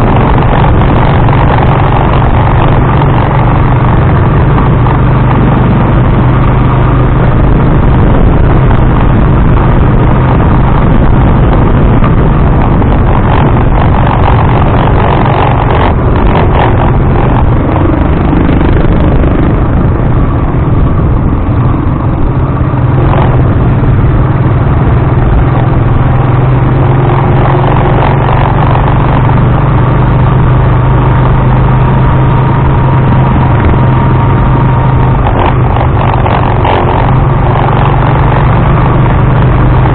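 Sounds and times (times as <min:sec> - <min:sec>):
rattling vibration noise: 0:00.0 - 0:39.9
tricycle engine humming: 0:00.0 - 0:39.9.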